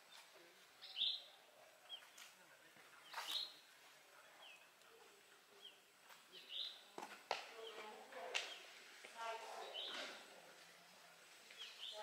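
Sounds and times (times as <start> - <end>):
small birds chirping: 0.0 - 10.2, 11.4 - 12.0
faint voices: 0.0 - 12.0.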